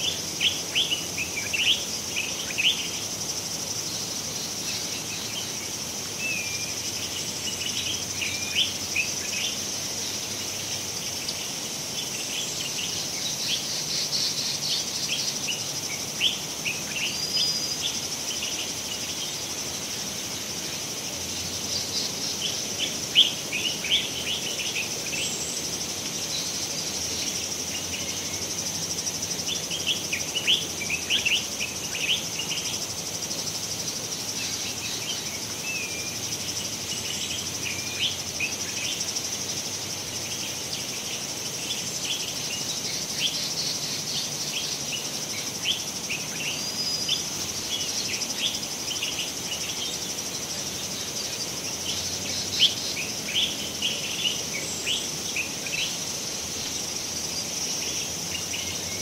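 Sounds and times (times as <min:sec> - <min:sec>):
cicadas chorus: 0:00.0 - 0:59.0.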